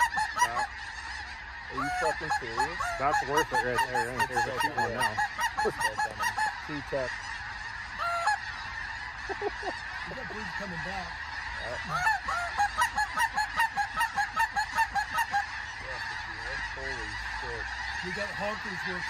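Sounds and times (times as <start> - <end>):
geese calling: 0.0 - 19.0.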